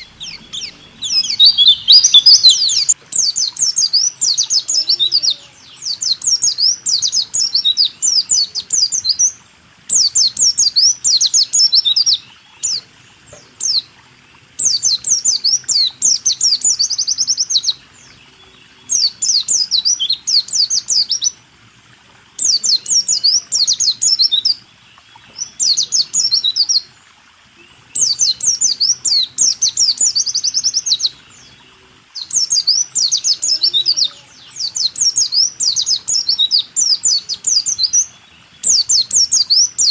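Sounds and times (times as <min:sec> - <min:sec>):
bird singing rapid chirps and trills: 0:00.0 - 0:21.4, 0:22.4 - 0:26.9, 0:27.6 - 0:39.9.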